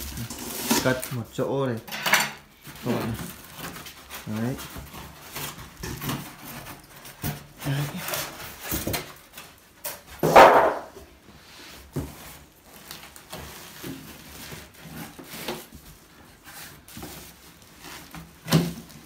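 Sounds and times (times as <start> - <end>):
styrofoam scraping cardboard box: 0.0 - 1.3, 2.6 - 10.2, 11.3 - 19.0
cardboard and plastic rustling: 0.0 - 19.0.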